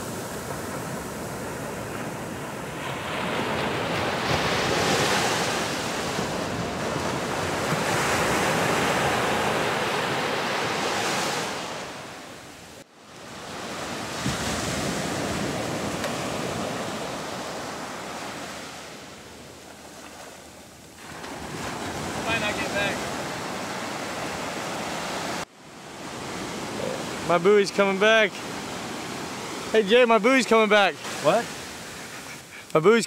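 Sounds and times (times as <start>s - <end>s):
ocean surf breaking on beach: 0.0s - 33.0s.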